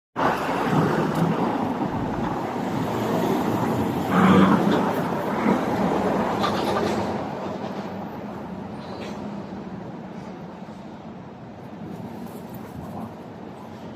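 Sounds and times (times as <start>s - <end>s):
passing vehicles hum: 0.2s - 13.9s.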